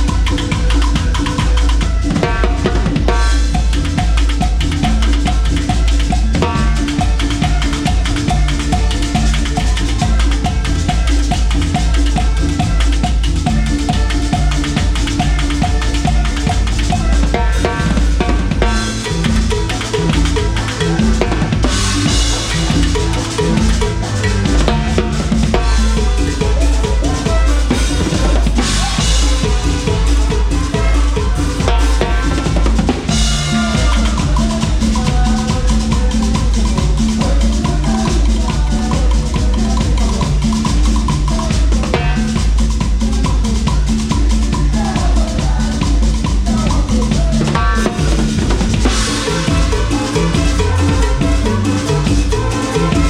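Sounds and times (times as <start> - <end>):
drum kit beat: 0.0 - 53.0
live band playing: 0.0 - 53.0.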